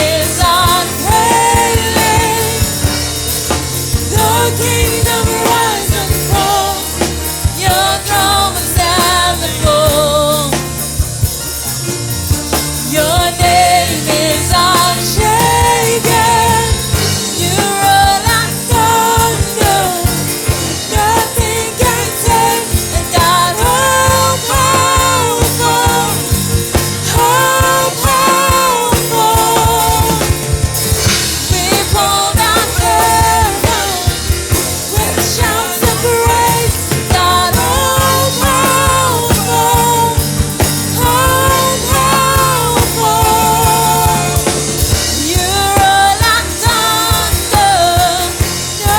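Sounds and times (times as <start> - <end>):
bass: 0.0 - 48.9
steady drum beat: 0.0 - 48.9
voices singing: 0.0 - 48.9.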